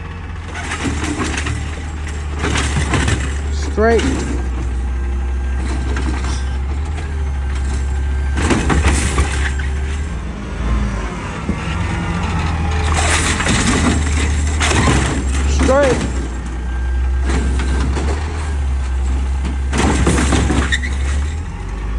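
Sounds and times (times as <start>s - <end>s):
garbage truck diesel engine: 0.0s - 21.9s
clattering noise: 0.5s - 10.3s, 11.3s - 21.9s.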